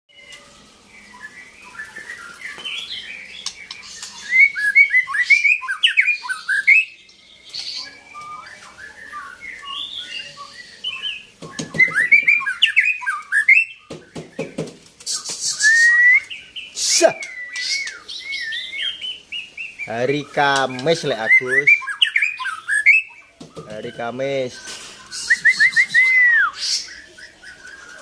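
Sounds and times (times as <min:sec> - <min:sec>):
bird singing whistles and chirps: 0:00.1 - 0:28.0.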